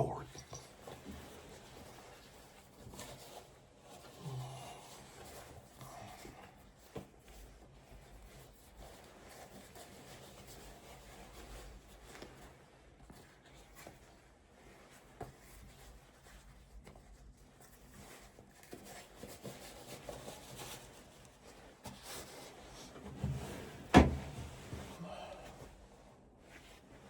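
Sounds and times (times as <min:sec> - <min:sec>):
quiet rustling: 0:05.0 - 0:27.0.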